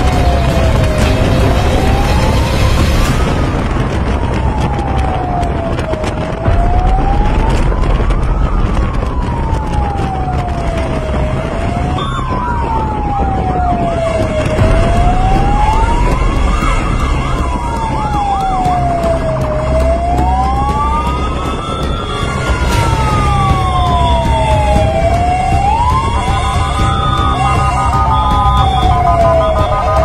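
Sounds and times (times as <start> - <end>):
choppy warbling siren: 0.0 - 30.0
engine and road noise: 0.0 - 30.0
fire truck siren wailing: 0.0 - 30.0.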